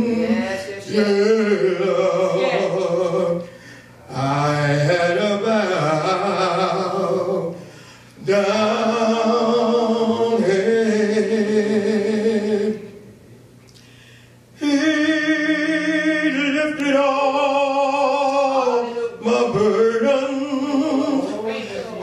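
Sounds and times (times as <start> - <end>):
man singing: 0.0 - 13.0, 14.6 - 21.5.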